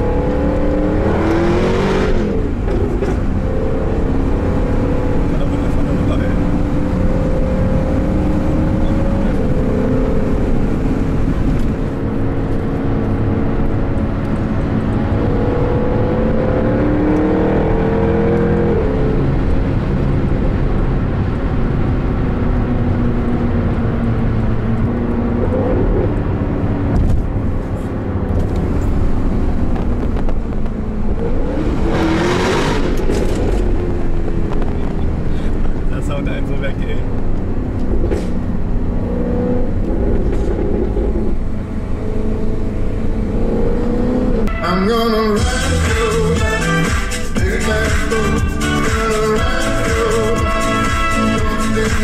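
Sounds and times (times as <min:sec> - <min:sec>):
car engine accelerating: 0:00.0 - 0:44.5.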